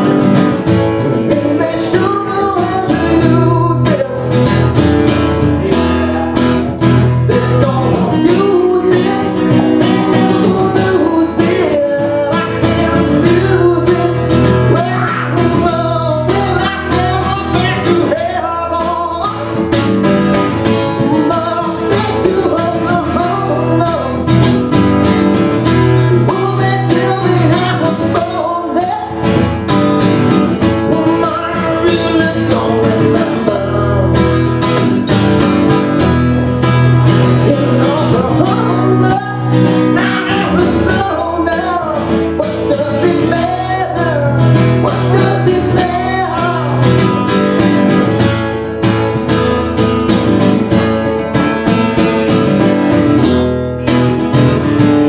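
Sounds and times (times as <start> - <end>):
man singing: 0.0 - 48.4
acoustic guitar: 0.0 - 55.0.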